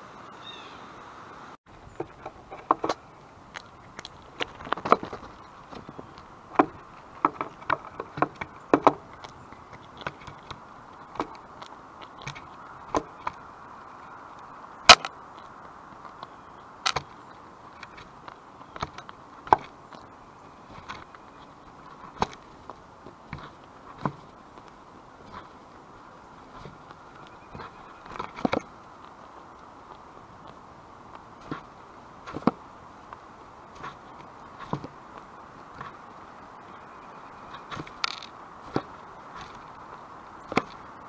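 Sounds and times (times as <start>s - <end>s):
faint steady hum: 0.0s - 41.0s
birds pecking and cracking seed: 1.7s - 41.0s.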